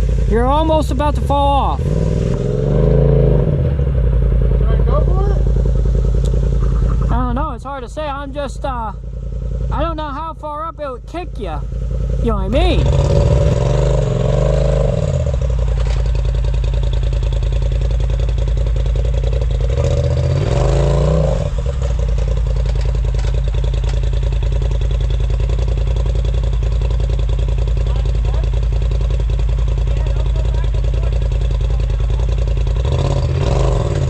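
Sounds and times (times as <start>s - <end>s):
vehicle engine idling and revving: 0.0s - 34.0s.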